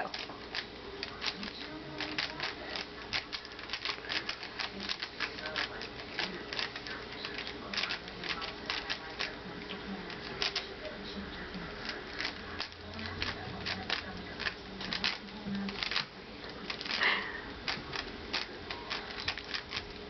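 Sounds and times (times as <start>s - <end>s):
plastic puzzle cube clacking: 0.1s - 10.7s, 11.8s - 20.0s.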